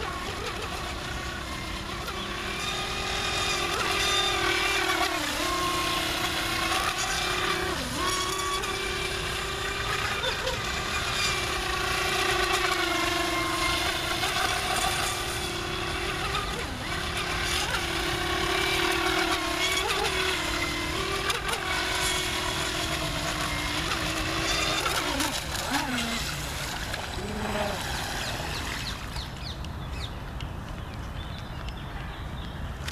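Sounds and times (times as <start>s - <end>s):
electric motor whining: 0.0s - 30.1s.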